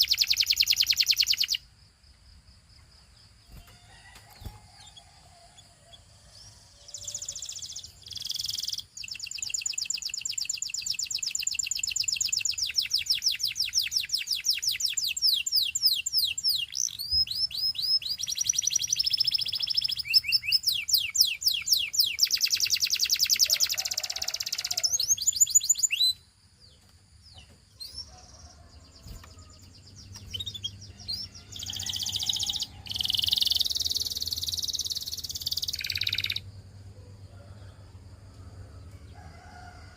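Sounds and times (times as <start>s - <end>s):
canary singing: 0.0s - 1.6s, 3.5s - 26.2s, 27.4s - 36.5s.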